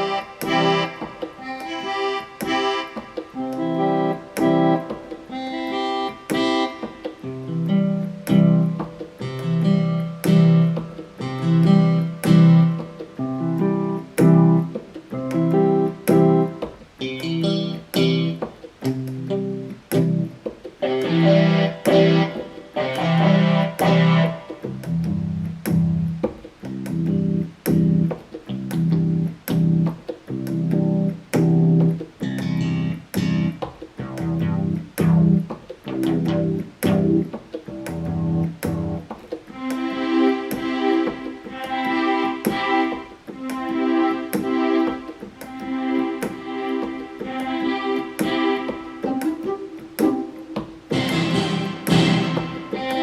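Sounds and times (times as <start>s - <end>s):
keyboard playing single low notes: 0.0s - 53.0s.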